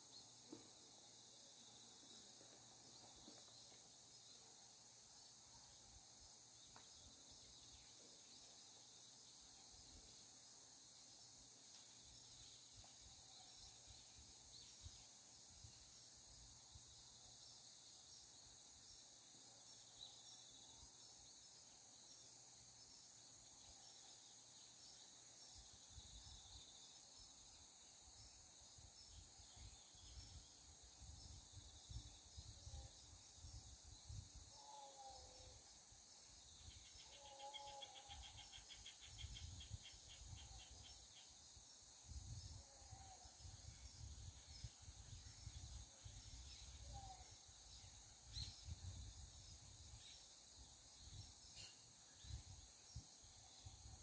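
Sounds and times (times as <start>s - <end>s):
fast pulsing insect trill: 0.0s - 54.0s
high-pitched insect chorus: 0.0s - 54.0s.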